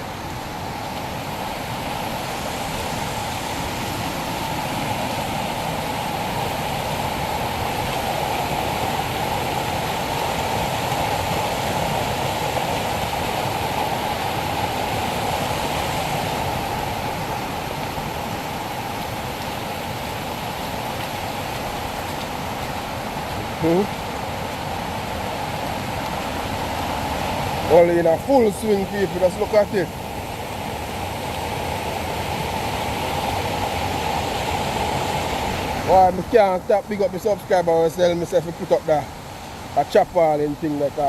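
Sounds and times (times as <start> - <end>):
floodwater rushing: 0.0 - 41.0.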